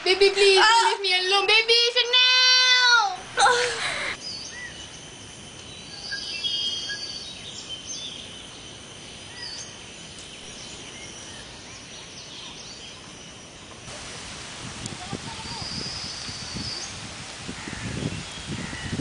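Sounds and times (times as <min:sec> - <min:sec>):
background hiss: 0:00.0 - 0:19.0
birds chirping: 0:00.0 - 0:19.0.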